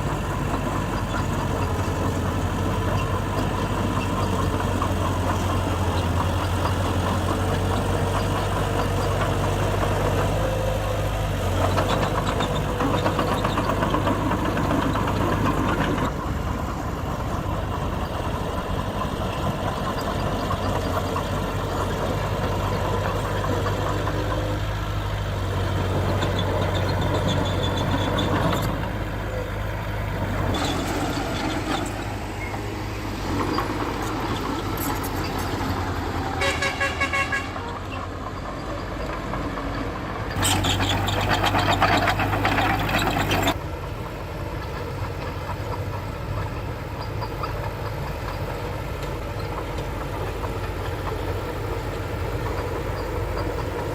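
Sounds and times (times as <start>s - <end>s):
heavy machine diesel engines: 0.0s - 53.9s.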